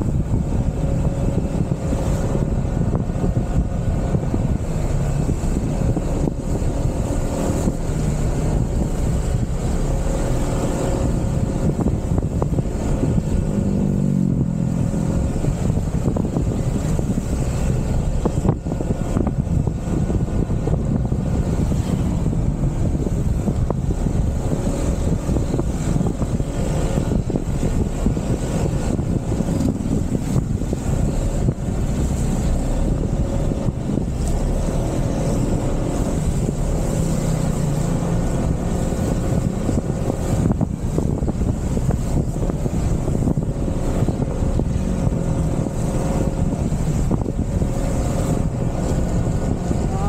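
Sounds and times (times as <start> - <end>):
motorcycle engine drone: 0.0 - 50.0
wind rumble on microphone: 0.0 - 50.0.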